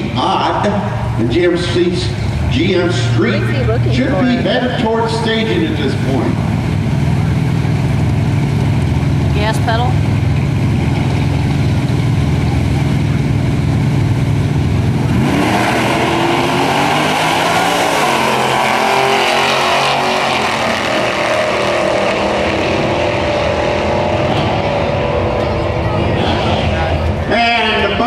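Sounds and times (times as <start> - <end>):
drag car engines idling: 0.0 - 16.6, 22.0 - 28.0
drag car engines accelerating: 0.0 - 28.0.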